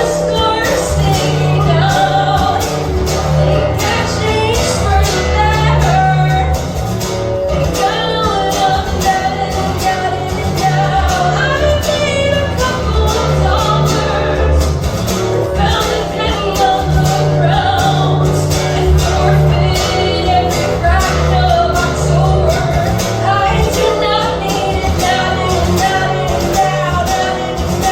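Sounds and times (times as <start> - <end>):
person singing: 0.0 - 6.8, 7.5 - 27.9.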